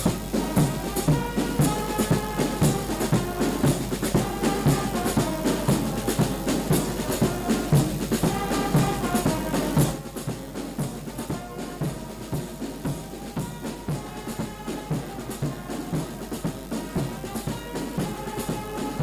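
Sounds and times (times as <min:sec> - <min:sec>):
band music: 0:00.0 - 0:19.0
drum beating steadily: 0:00.0 - 0:19.0.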